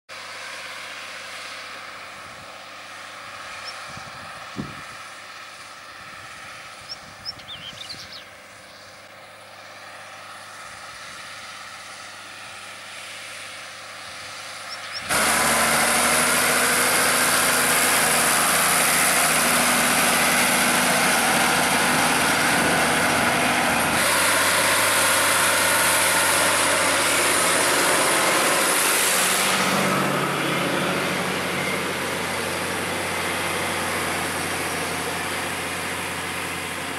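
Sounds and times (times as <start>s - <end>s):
tractor diesel engine under load: 0.1s - 36.9s.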